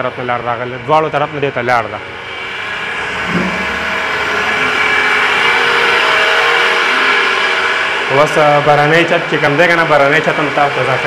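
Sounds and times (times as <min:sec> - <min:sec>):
motor-like whir: 0:02.1 - 0:11.0.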